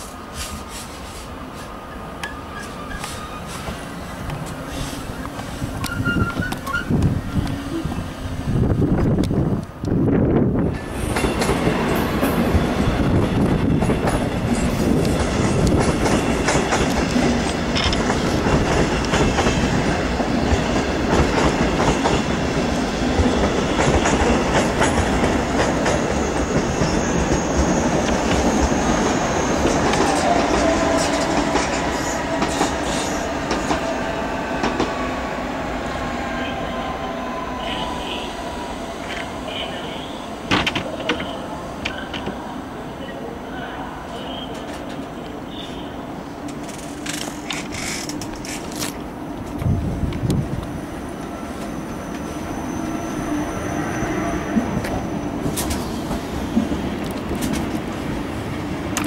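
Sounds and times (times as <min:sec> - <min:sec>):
train wheel rumble: 0:00.0 - 0:42.5, 0:44.5 - 0:59.0.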